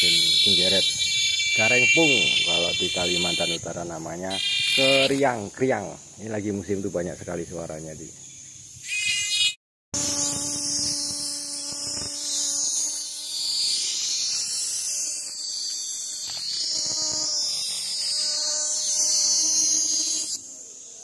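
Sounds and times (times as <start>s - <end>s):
cicada buzzing: 0.0s - 21.0s.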